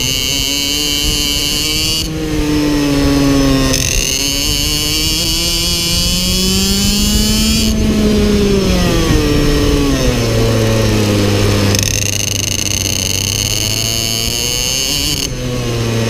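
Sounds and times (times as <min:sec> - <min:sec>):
kart engine revving: 0:00.0 - 0:16.0.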